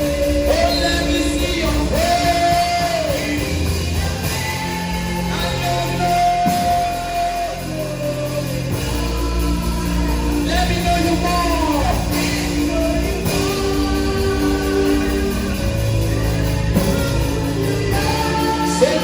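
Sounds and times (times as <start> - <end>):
slow gospel music: 0.0 - 19.0.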